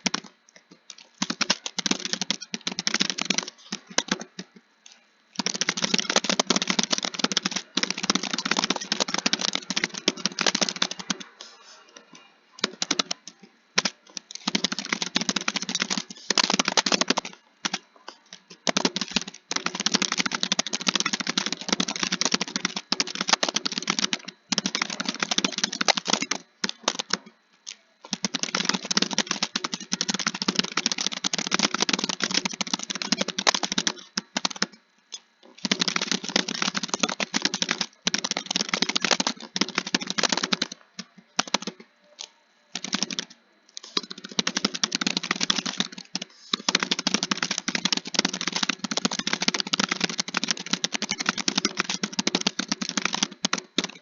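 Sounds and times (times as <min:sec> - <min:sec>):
keyboard typing: 0:00.0 - 0:54.0.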